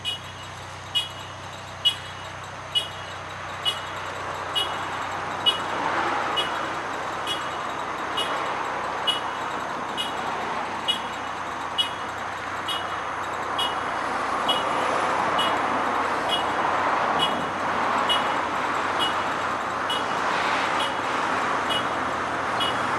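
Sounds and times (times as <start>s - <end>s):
bus engine running: 0.0s - 22.9s
sharp ticking: 0.0s - 22.9s.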